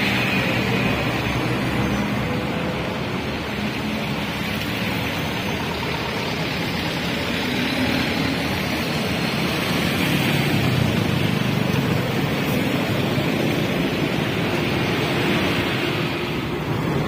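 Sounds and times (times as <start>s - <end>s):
motorcycles passing: 0.0s - 17.0s
trucks driving past: 0.0s - 17.0s.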